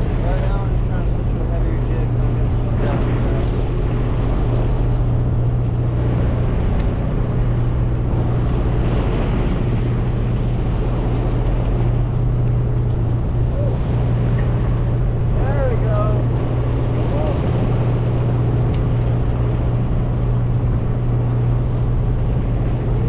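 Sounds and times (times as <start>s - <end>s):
boat engines humming: 0.0s - 23.0s.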